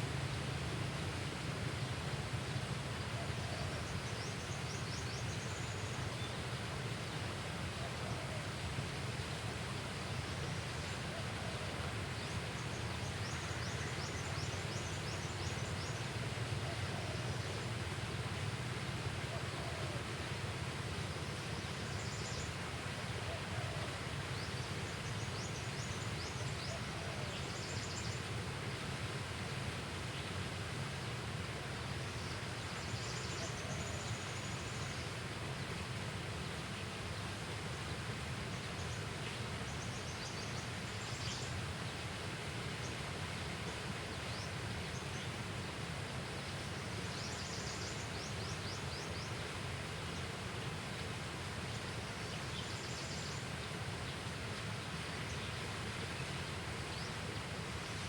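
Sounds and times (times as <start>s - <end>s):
outdoor ambient hiss: 0.0s - 58.0s.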